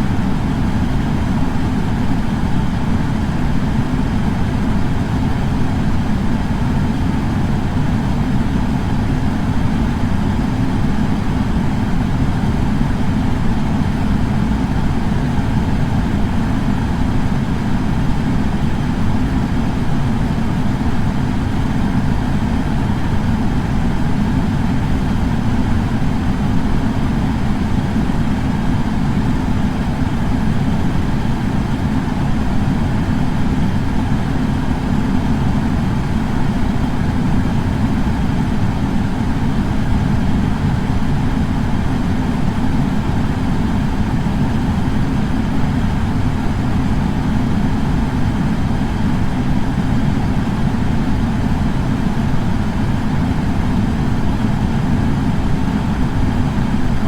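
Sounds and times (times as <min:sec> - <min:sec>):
air purifier fan running: 0:00.0 - 0:57.0.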